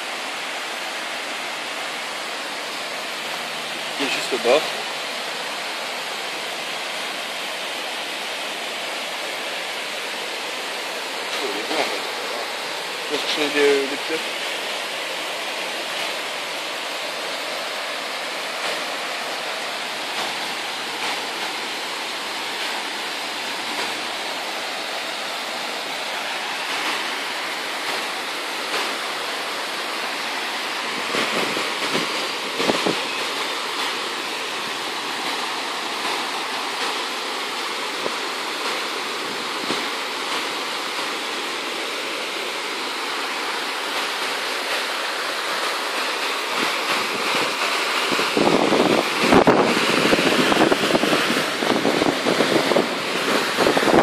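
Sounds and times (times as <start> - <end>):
water pouring over cascade: 0.0 - 54.0.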